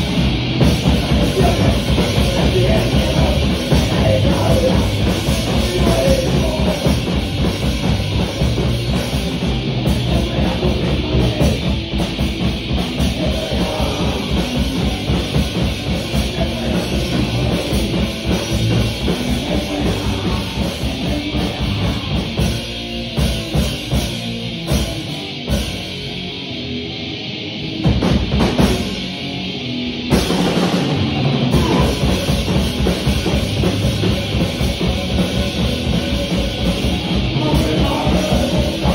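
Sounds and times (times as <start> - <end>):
fast drumming on drum kit: 0.0 - 26.0, 27.8 - 29.1, 30.1 - 38.9
distorted bass and guitar: 0.0 - 38.9
punk band playing live: 0.0 - 38.9.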